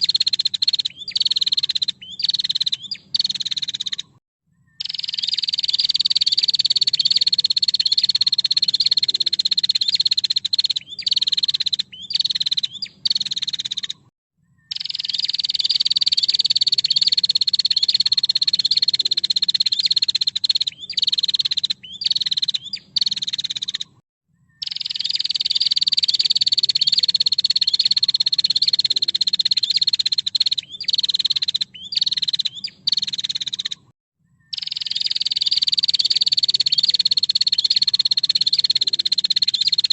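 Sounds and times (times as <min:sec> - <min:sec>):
bird buzzing trill call: 0:04.8 - 0:14.1, 0:14.7 - 0:23.9, 0:24.6 - 0:33.8, 0:34.5 - 0:39.9.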